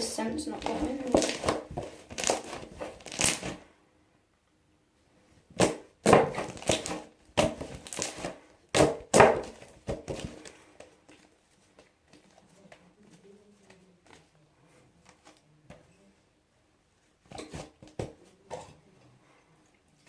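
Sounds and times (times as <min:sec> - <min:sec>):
slime squishing by hand: 0:00.0 - 0:03.7, 0:05.3 - 0:16.0, 0:16.9 - 0:20.0.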